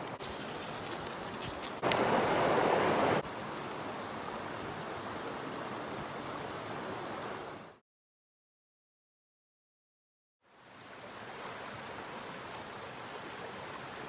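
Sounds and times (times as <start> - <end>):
river flowing: 0.0 - 7.8, 10.5 - 14.0.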